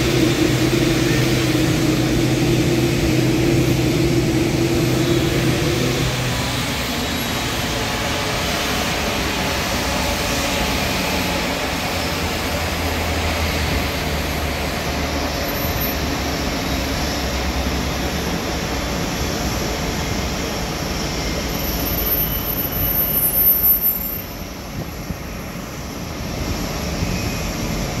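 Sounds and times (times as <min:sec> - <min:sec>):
jet aircraft drone: 0:00.0 - 0:28.0.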